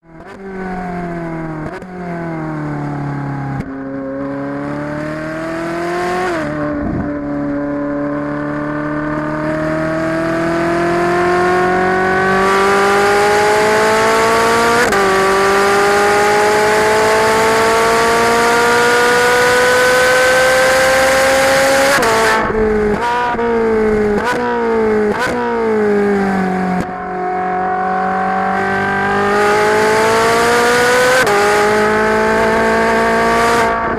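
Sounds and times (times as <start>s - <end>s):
car engine at full throttle: 0.0s - 33.9s
engine rev blips on downshifts: 0.1s - 33.9s.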